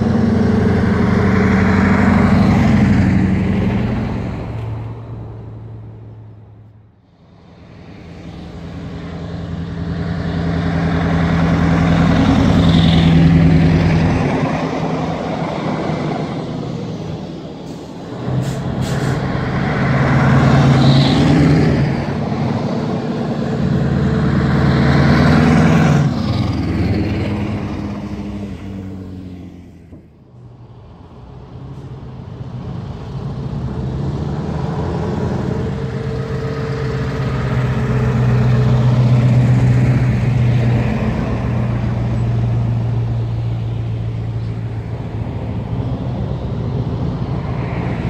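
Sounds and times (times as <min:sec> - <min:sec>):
heavy trucks driving past: 0:00.0 - 0:48.0.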